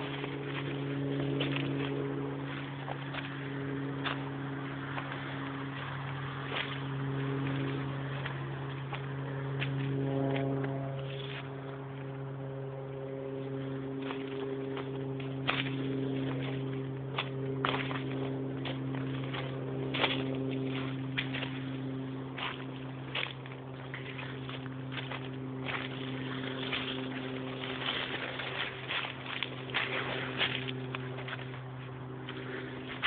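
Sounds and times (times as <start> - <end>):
footsteps through undergrowth: 0.0 - 33.0
steady low drone: 0.0 - 33.0.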